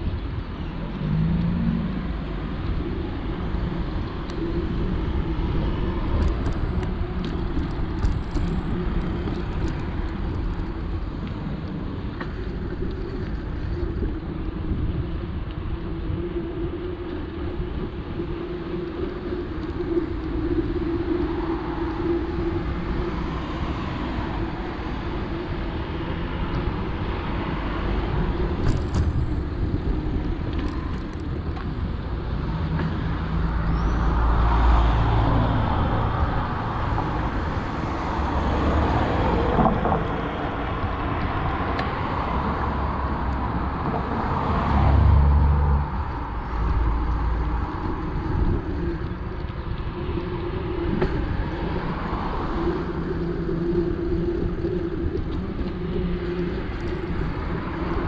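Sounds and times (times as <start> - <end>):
road noise rushing: 0.0 - 58.0
wind rumbling on microphone: 0.0 - 58.0.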